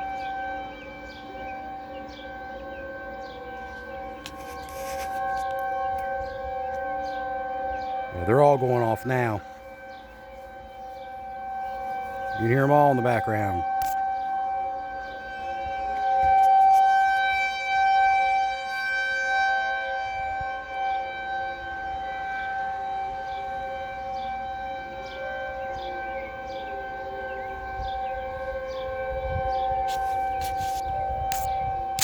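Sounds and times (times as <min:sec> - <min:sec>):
warning sirens wailing: 0:00.0 - 0:32.0.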